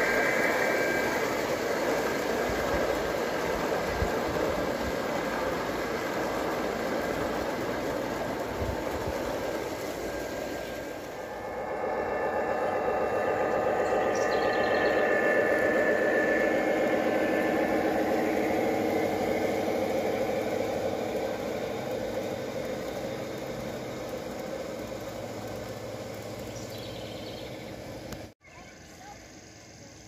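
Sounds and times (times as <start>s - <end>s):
model train rumbling along track: 0.0s - 30.0s.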